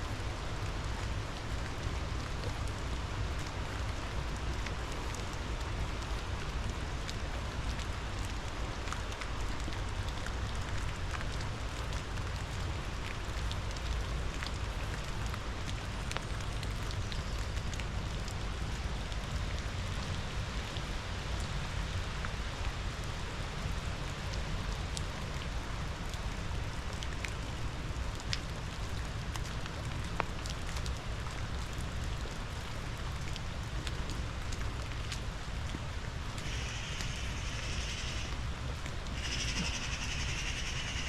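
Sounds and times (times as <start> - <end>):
raindrops ticking on a surface: 0.0 - 41.0.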